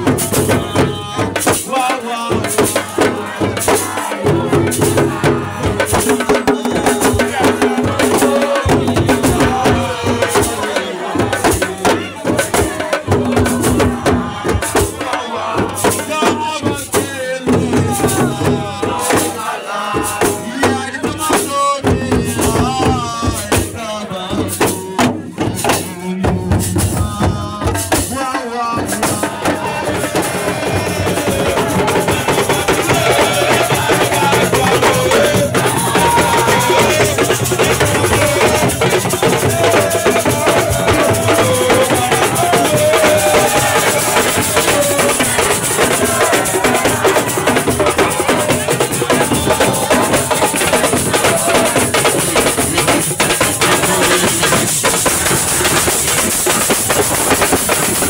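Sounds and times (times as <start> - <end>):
dense drumming and percussion: 0.0 - 58.0.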